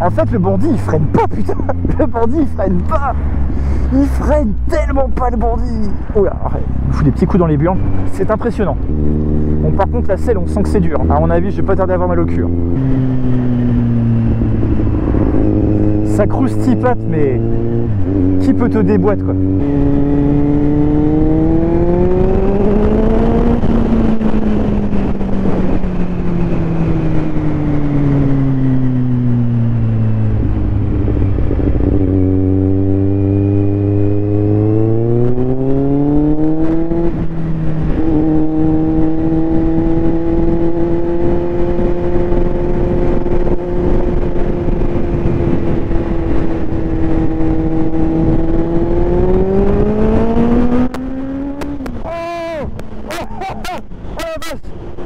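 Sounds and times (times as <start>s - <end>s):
motorcycle engine riding: 0.0s - 55.0s
rushing wind noise: 0.0s - 55.0s.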